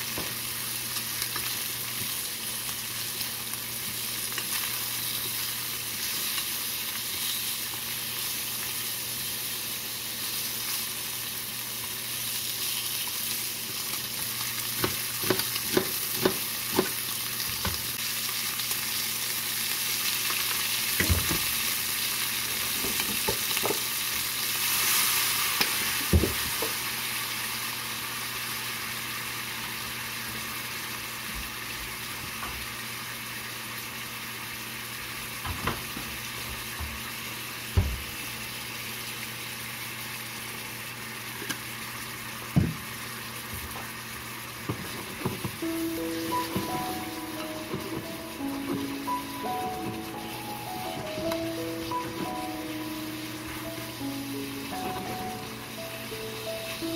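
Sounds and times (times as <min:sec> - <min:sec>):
meat sizzling in frying pan: 0:00.0 - 0:56.9.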